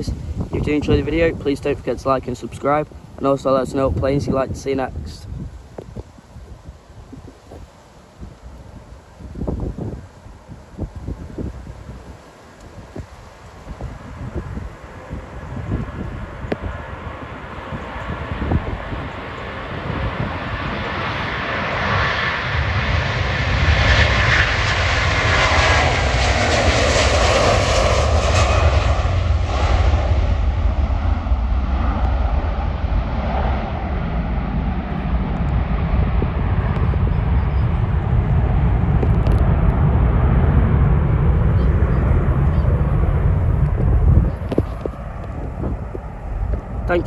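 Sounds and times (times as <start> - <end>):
jet airliner engine roar: 0.0 - 47.0.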